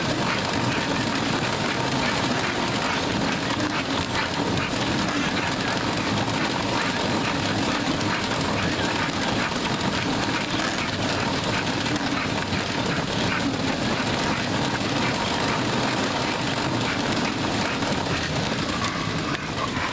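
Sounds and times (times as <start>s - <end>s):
treadmill rattling rumble: 0.0s - 19.9s.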